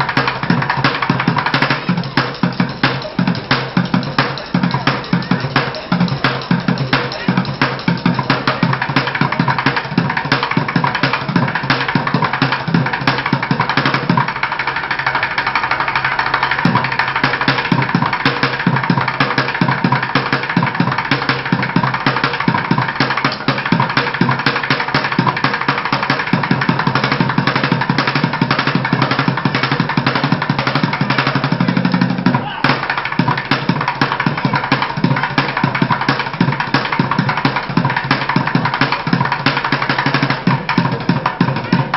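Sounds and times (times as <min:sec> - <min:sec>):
fast drumming on plastic buckets: 0:00.0 - 0:41.9.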